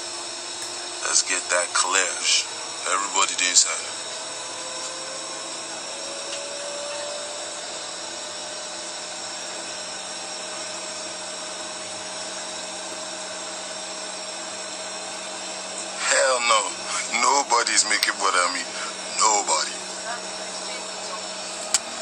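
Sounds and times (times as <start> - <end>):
faint whine: 0.0 - 22.0
vehicle cabin noise: 0.0 - 22.0.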